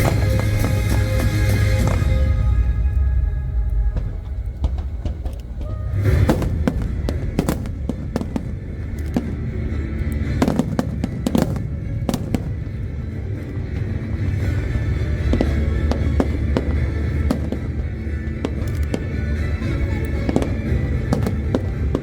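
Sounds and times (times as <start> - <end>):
fireworks bursting: 0.0 - 22.0
music: 0.0 - 22.0.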